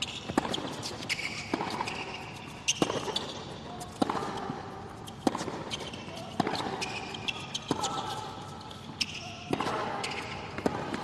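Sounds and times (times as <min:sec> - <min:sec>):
tennis ball hit by racket: 0:00.0 - 0:08.2, 0:09.0 - 0:11.0
shoes squeaking on court: 0:00.0 - 0:11.0.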